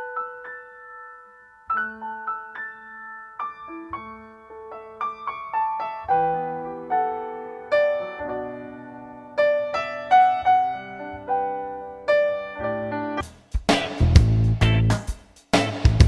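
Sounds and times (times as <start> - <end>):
piano music: 0.0 - 13.3, 13.9 - 15.0.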